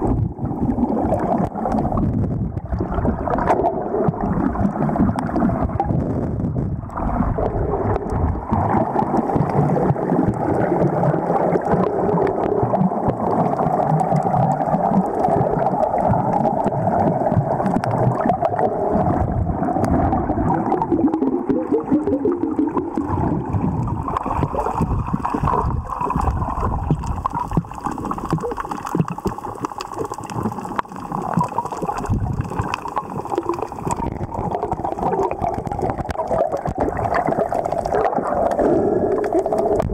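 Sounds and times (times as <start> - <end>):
faint underwater clicks and crackles: 0.0 - 39.9.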